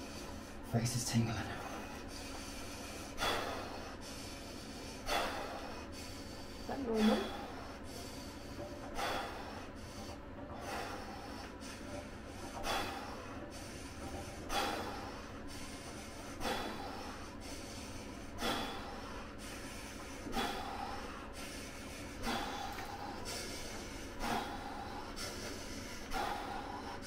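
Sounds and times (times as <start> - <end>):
man breathing deeply: 0.0 - 0.7, 1.4 - 27.0.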